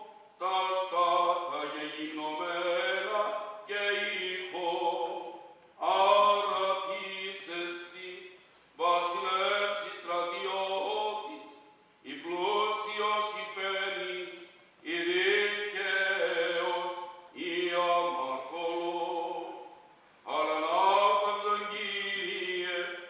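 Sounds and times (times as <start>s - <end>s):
man singing chant unaccompanied: 0.0s - 23.0s.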